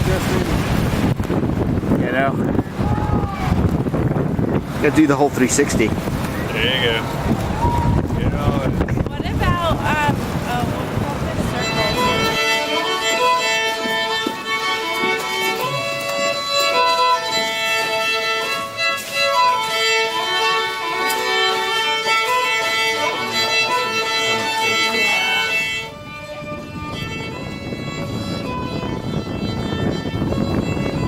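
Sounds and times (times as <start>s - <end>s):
fiddle playing a melody: 0.1s - 31.0s.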